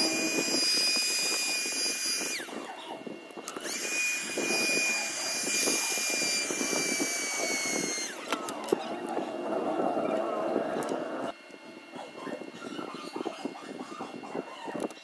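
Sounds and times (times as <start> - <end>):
handheld vacuum motor whining: 0.0 - 15.0.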